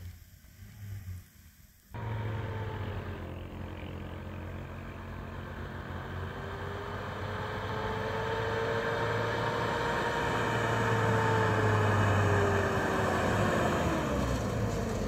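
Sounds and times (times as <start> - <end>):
faint rising whine: 0.0 - 15.0
vehicle engine humming: 1.9 - 15.0.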